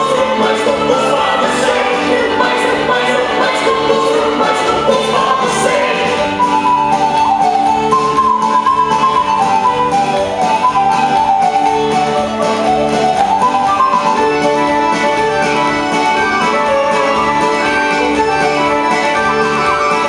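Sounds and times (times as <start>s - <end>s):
folk-dance music: 0.0s - 20.0s.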